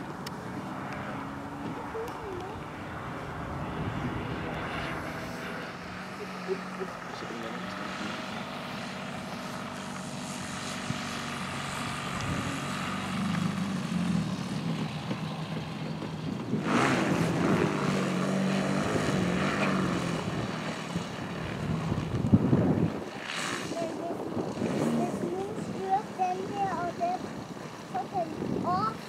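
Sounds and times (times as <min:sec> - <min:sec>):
model plane propeller engine: 0:00.0 - 0:29.0.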